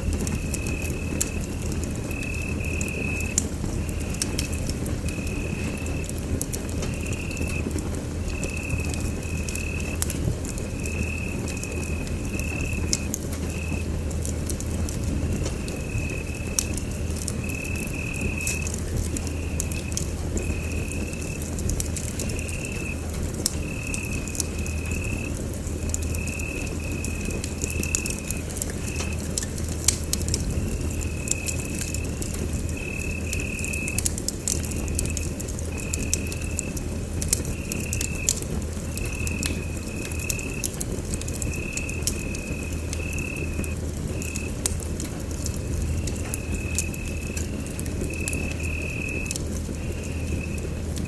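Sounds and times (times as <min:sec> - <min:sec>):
wood fire crackling and popping: 0:00.0 - 0:51.0
cricket chirping: 0:00.2 - 0:06.1, 0:06.8 - 0:07.7, 0:08.3 - 0:13.9, 0:15.1 - 0:23.0, 0:23.6 - 0:29.4, 0:30.4 - 0:44.7, 0:45.4 - 0:51.0.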